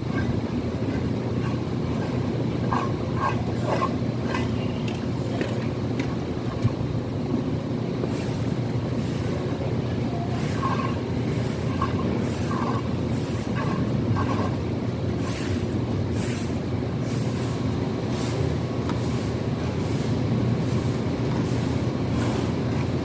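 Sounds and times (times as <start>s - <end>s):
low machine rumble: 0.0s - 23.0s.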